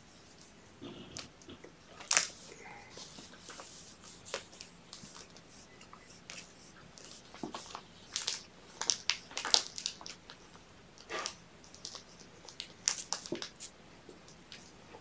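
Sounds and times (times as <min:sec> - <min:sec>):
rustling and crinkling blanket: 0:00.0 - 0:15.0.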